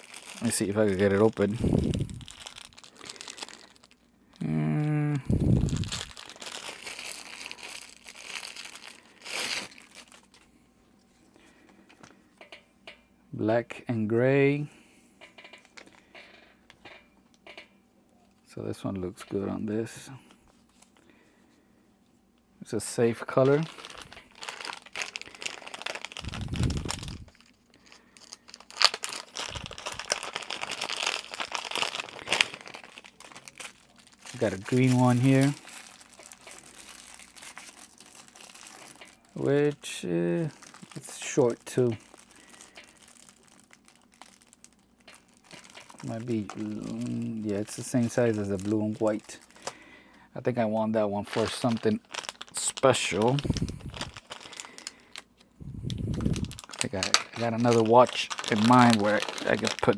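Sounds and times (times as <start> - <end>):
plastic packaging crinkling: 0.0 - 4.5, 5.3 - 10.5, 15.3 - 17.6, 22.8 - 50.1, 50.9 - 59.9.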